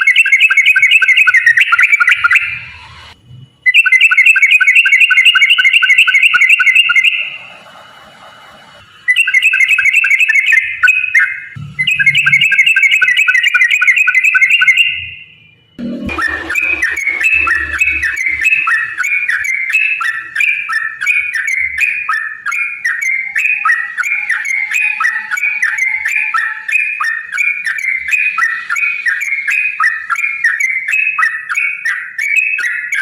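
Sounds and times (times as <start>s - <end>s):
bird singing bubbly whistled notes: 0.0s - 7.5s, 9.0s - 33.0s.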